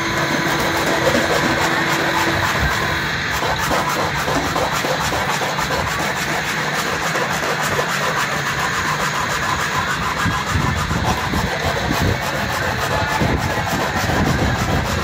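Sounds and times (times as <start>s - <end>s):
din of workshop machines: 0.0s - 15.0s
hand tool scraping plastic: 0.0s - 15.0s.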